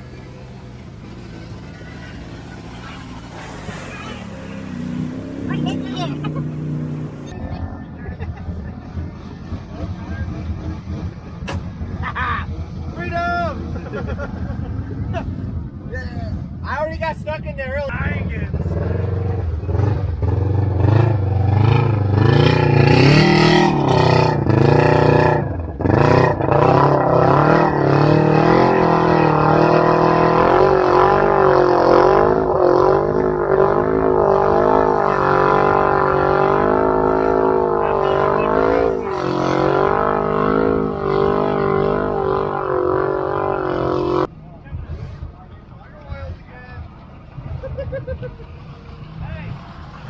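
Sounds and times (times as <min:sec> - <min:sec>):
atv engine revving: 0:00.0 - 0:44.3.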